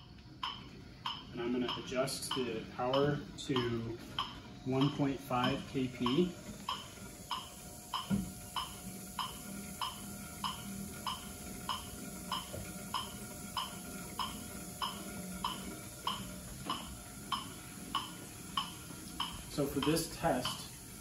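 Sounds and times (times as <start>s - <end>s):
faint steady hum: 0.0s - 21.0s
metronome ticking: 0.4s - 21.0s.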